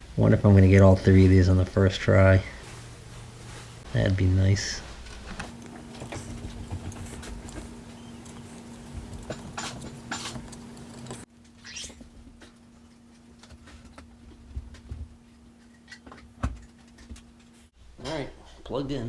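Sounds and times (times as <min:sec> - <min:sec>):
steady electrical hum: 0:02.4 - 0:17.7.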